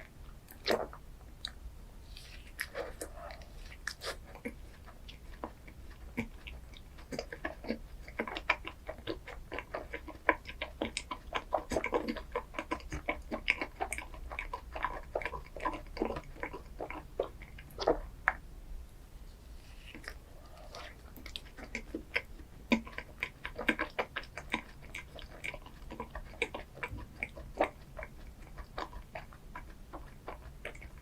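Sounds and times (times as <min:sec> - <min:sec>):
wet chewing mouth clicks: 0:00.0 - 0:18.5, 0:19.8 - 0:31.0.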